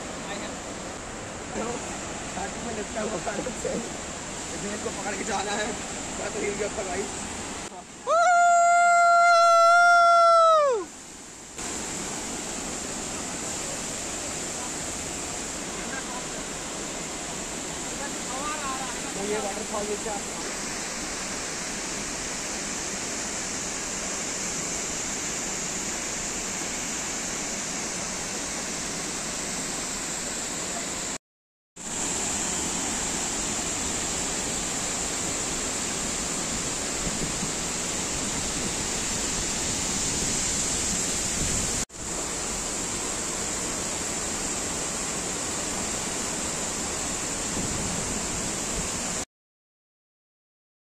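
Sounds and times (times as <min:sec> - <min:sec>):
large waterfall rushing: 0:00.0 - 0:31.2, 0:31.8 - 0:49.2.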